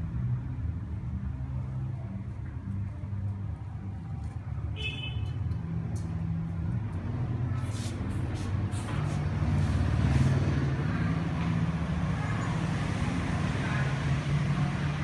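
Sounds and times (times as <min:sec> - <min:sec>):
low hum of traffic: 0:00.0 - 0:15.0.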